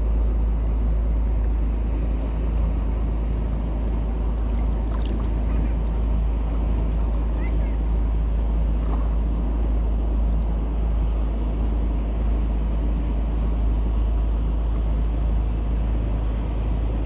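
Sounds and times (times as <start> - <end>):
boat engine running: 0.0 - 17.0
wind rumble on microphone: 0.0 - 17.0.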